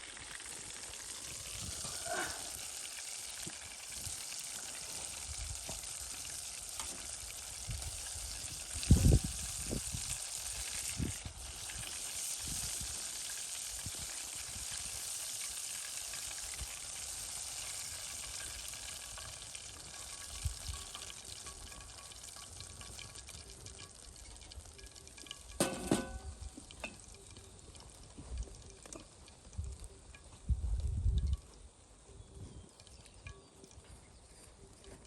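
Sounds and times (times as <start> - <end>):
chicken sizzling in hot oil: 0.0 - 33.8.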